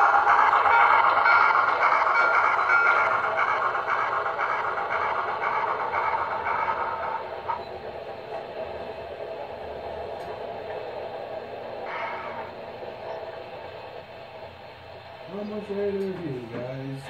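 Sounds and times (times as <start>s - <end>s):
model steam locomotive sound effects: 0.0s - 17.0s.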